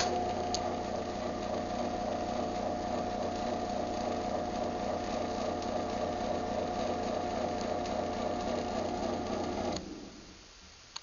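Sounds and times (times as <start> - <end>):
garage door opener motor: 0.0 - 10.2.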